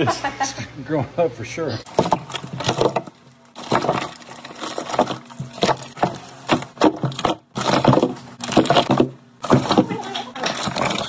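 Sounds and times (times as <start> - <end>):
frozen packages knocking together: 1.9 - 11.0.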